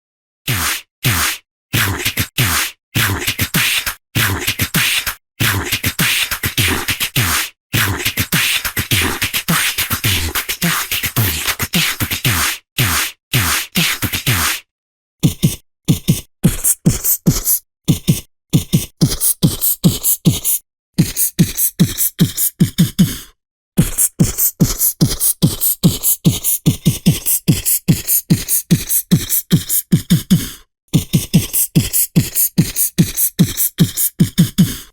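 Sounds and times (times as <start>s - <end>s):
vocal beatboxing: 0.5s - 34.9s.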